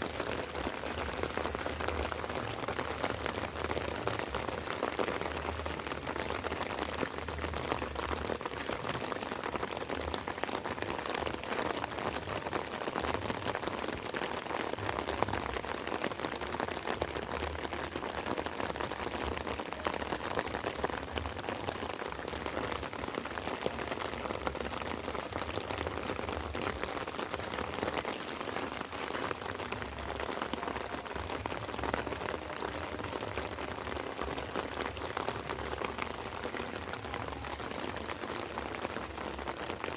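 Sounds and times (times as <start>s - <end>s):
light rain on leaves: 0.0s - 39.9s.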